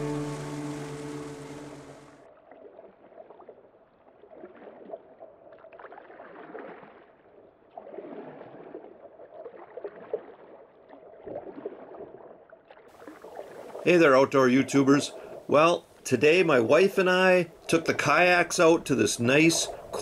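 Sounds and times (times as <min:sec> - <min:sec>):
kayak paddle splashing in water: 0:00.0 - 0:16.0, 0:17.5 - 0:20.0.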